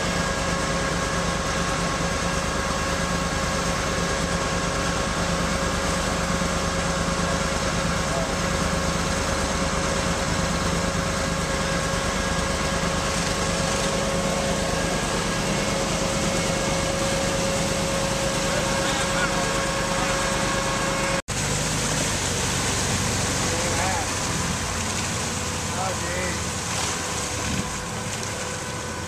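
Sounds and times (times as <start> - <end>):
small engine running under load: 0.0 - 29.0
vehicle driving through muddy water: 0.0 - 29.0.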